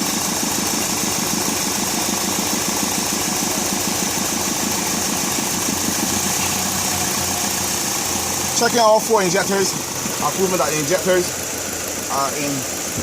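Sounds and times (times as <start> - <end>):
car engine idling with ticking: 0.0 - 13.0.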